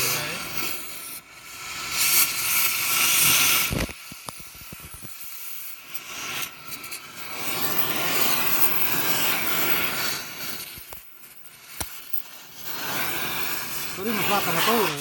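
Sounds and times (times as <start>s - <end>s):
cutting torch hissing: 0.0s - 15.0s.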